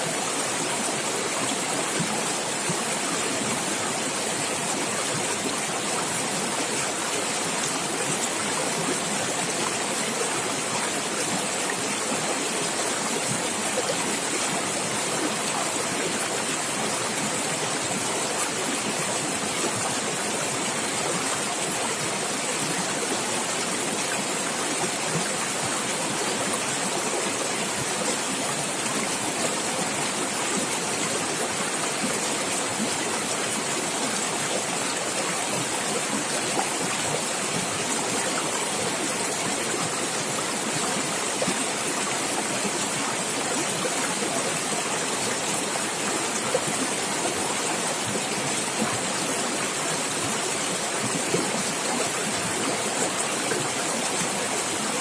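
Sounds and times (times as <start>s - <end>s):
stream gurgling and splashing: 0.0s - 55.0s.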